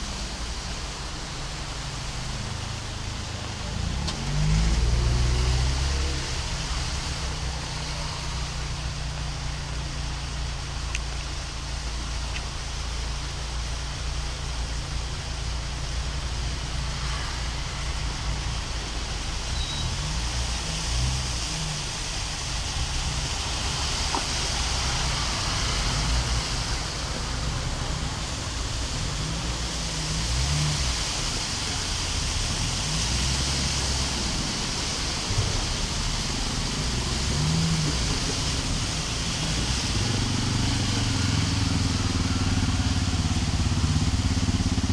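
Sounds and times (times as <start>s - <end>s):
heavy rain and running water: 0.0s - 44.9s
low uneven rumble: 0.0s - 44.9s.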